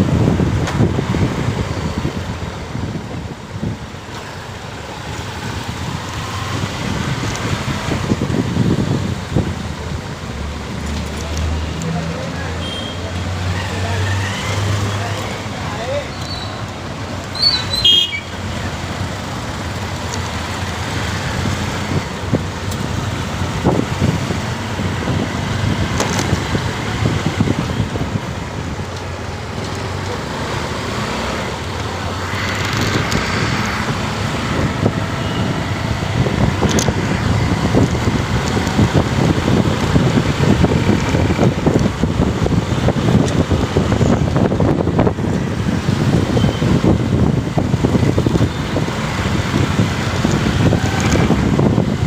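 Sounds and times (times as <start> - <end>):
motorcycle engine and tyres: 0.0 - 52.0
road and traffic noise: 0.0 - 52.0.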